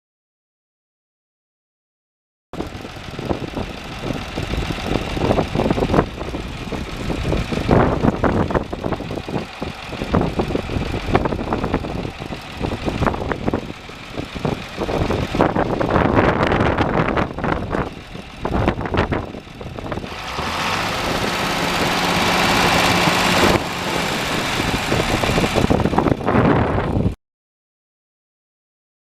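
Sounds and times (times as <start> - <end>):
tractor diesel engine running: 2.6 - 27.2.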